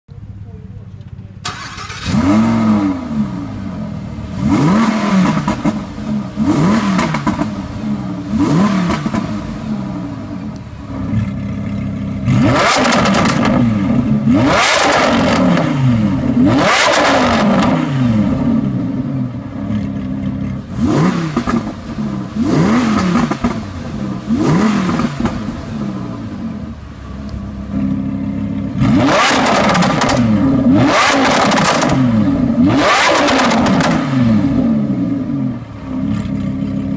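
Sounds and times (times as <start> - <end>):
car engine revving: 1.5 - 36.9.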